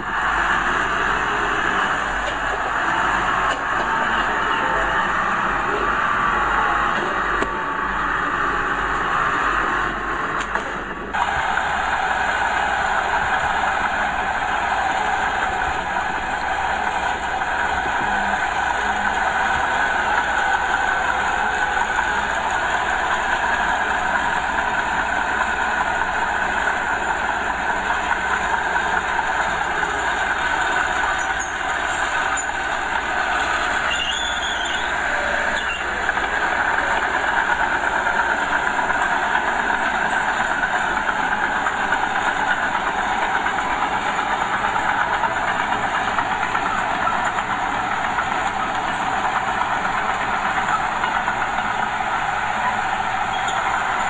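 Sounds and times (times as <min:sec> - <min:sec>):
bulldozer diesel engine running: 0:00.0 - 0:54.0
steel tracks clattering and squealing: 0:00.0 - 0:54.0.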